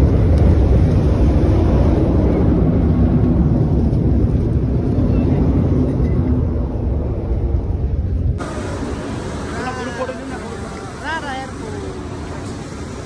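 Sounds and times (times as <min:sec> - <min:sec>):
propeller plane engine rumble: 0:00.0 - 0:13.0.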